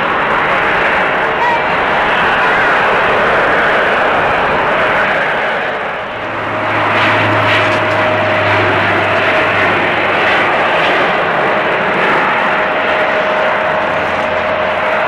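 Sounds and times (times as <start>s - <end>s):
turboprop airliner engines droning: 0.0s - 15.0s.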